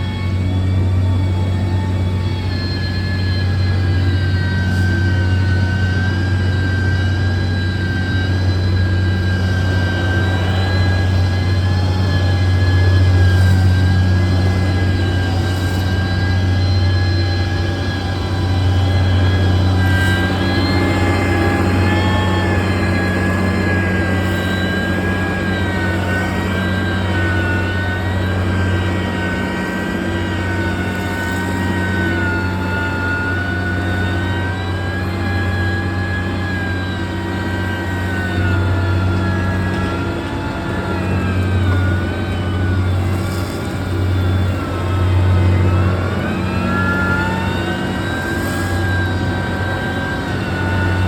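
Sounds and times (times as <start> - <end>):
diesel engine running under load: 0.0 - 51.0
engine whine: 0.0 - 51.0.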